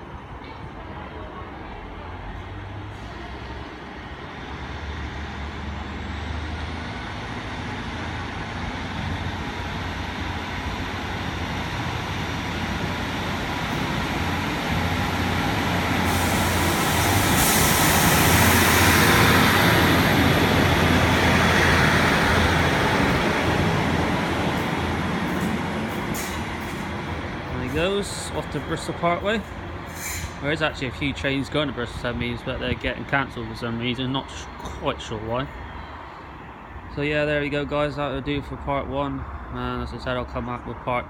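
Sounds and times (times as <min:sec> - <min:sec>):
diesel train engine accelerating: 0:02.1 - 0:38.4.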